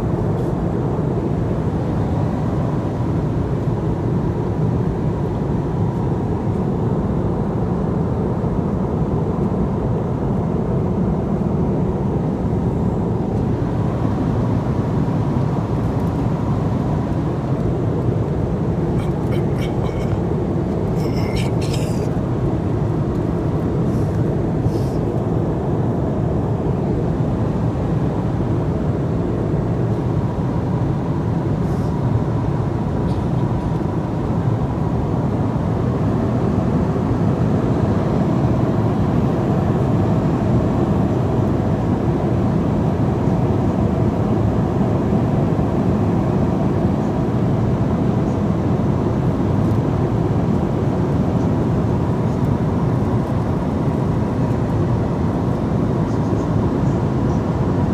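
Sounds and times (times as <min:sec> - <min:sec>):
airliner engine and airflow rumble: 0:00.0 - 0:57.9.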